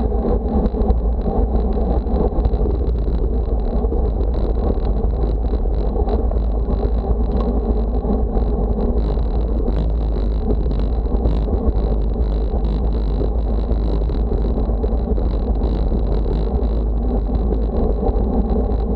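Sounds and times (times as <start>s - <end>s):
road noise: 0.0s - 18.9s
wind rumble on microphone: 0.0s - 18.9s.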